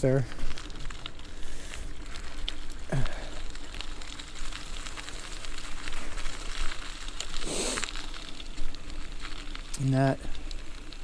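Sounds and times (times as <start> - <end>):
bike tyres crackling on road: 0.0 - 11.0.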